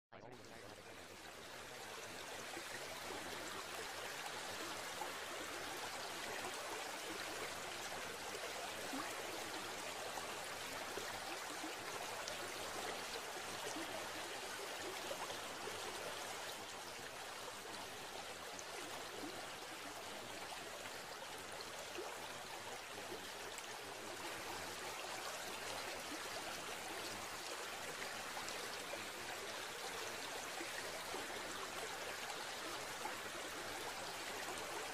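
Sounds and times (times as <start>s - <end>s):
running water: 0.3s - 34.9s.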